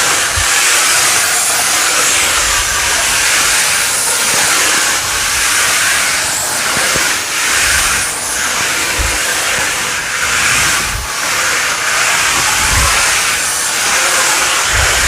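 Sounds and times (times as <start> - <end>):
steam cleaner jet hissing: 0.0 - 15.0.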